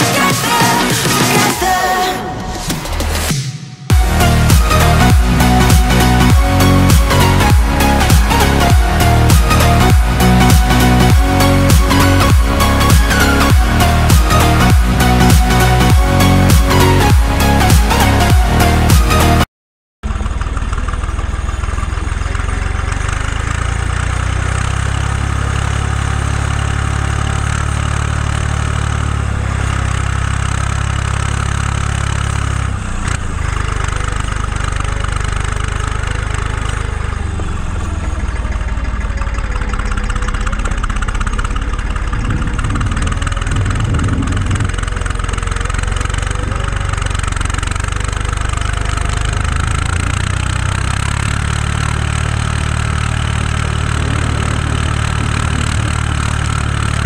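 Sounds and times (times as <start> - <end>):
tractor diesel engine running: 3.9 - 19.4, 20.0 - 57.0.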